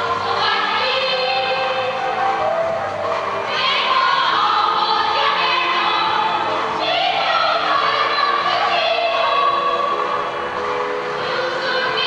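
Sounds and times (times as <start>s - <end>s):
choir singing in harmony: 0.0s - 12.0s.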